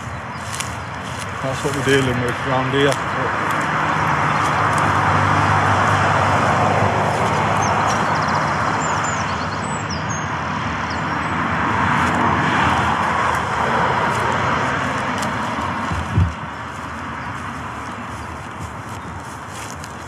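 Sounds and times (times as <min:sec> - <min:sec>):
low vehicle engine hum: 0:00.0 - 0:20.0
road traffic passing: 0:00.0 - 0:20.0.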